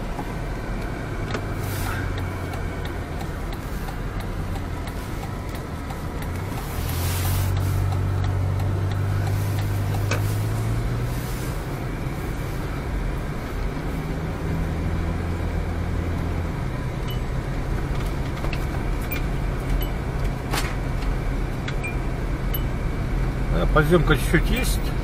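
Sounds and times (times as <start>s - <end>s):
car engine hum: 0.0s - 25.0s.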